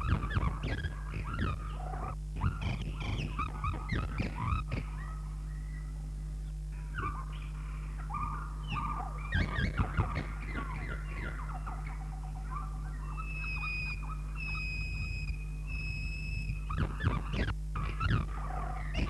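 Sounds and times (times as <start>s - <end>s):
bird-like chirping and squawking: 0.0s - 6.0s, 6.8s - 19.0s
low mains hum: 0.0s - 19.0s.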